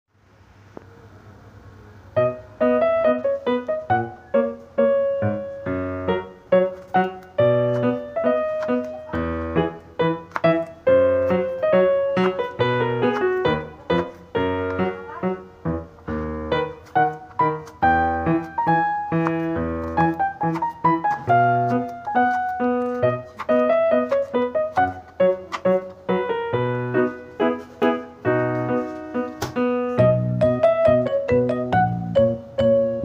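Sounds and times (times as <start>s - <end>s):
piano music: 2.1s - 33.0s.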